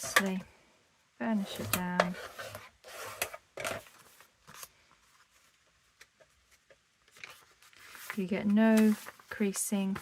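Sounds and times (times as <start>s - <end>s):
paper rustling: 1.5s - 10.0s.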